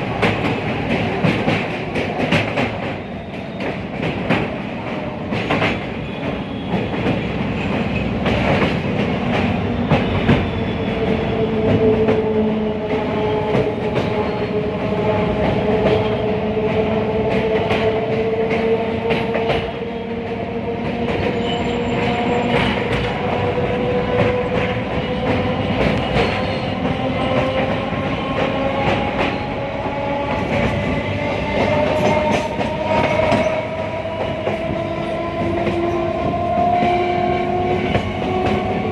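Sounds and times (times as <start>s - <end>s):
rising train whine: 0.0s - 38.9s
train rumbling on rails: 0.0s - 38.9s.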